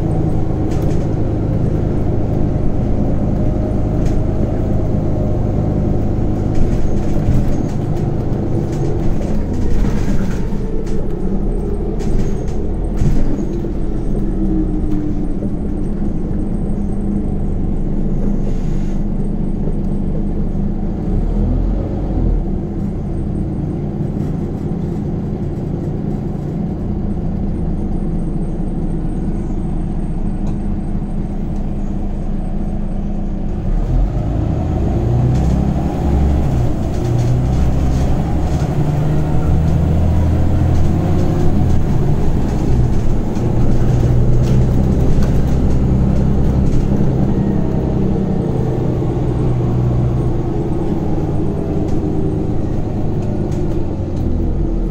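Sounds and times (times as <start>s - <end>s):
bus engine drone: 0.0s - 54.9s
road noise: 0.0s - 54.9s.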